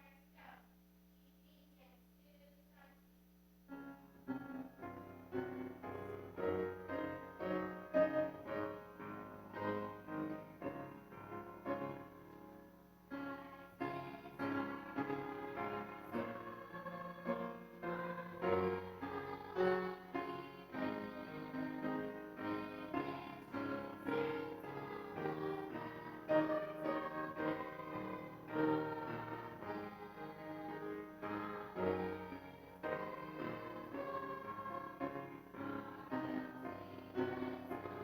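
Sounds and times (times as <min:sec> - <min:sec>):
piano playing slow chords: 0:03.7 - 0:38.0.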